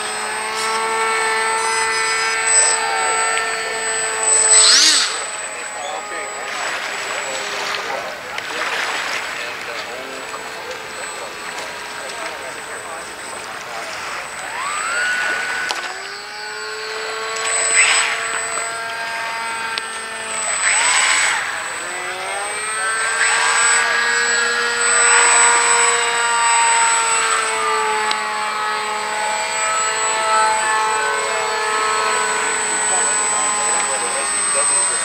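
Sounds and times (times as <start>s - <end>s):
model plane propeller whining: 0.0s - 35.0s.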